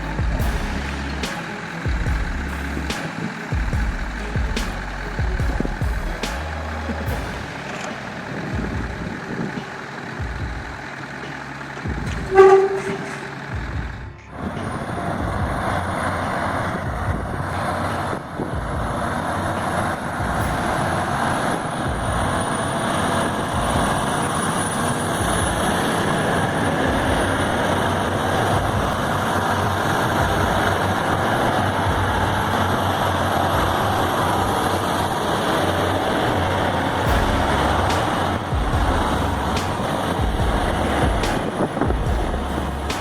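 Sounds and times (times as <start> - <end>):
heavy vehicle engine running: 0.0 - 43.0.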